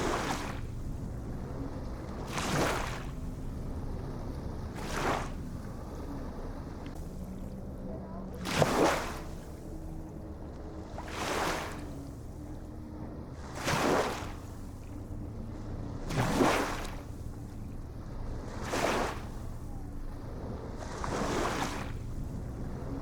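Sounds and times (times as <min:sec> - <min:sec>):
small waves splashing: 0:00.0 - 0:23.0.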